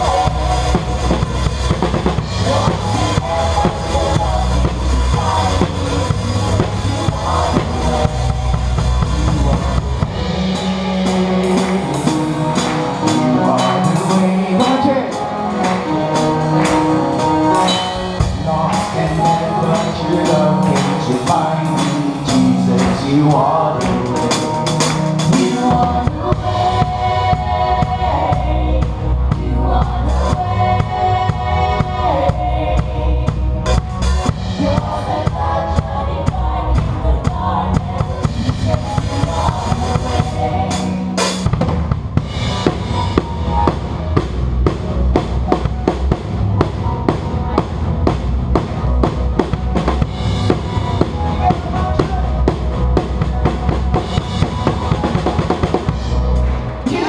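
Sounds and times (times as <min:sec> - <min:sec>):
voices singing along: 0:00.0 - 0:41.4, 0:50.4 - 0:57.0
band playing live: 0:00.0 - 0:57.0.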